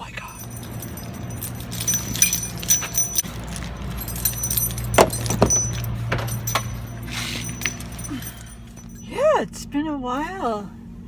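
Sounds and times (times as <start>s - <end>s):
car engine humming: 0.0s - 11.0s
keys jangling: 0.1s - 9.1s.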